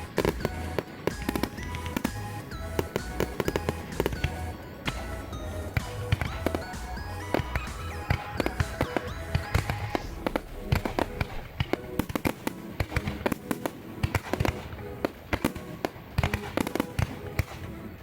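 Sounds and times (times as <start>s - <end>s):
background music: 0.0s - 18.0s
fireworks bursting and crackling: 0.0s - 18.0s.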